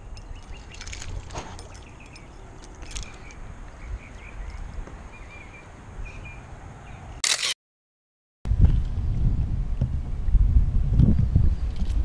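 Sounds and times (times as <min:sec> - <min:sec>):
wind buffeting microphone: 0:00.0 - 0:06.2, 0:08.5 - 0:12.0.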